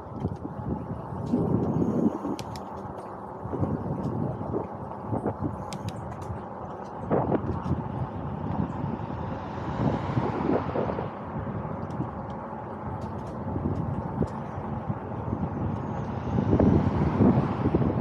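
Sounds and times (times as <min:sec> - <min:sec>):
wind blowing over microphone: 0:00.0 - 0:18.0.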